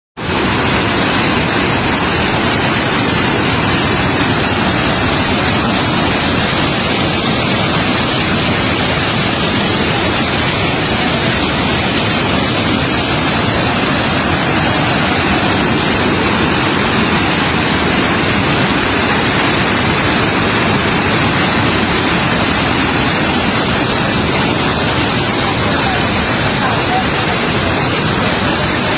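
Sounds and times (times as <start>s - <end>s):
waterfall rushing: 0.2s - 28.9s.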